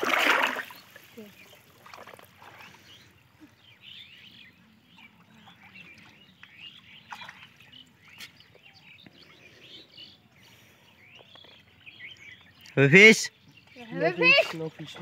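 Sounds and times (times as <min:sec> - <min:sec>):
faint birds chirping: 0:00.4 - 0:15.0.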